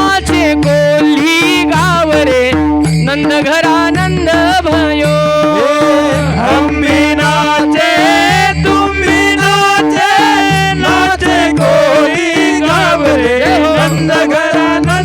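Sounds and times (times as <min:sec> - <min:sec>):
person singing devotional melody: 0:00.0 - 0:15.0
repeating drum beat: 0:00.0 - 0:15.0.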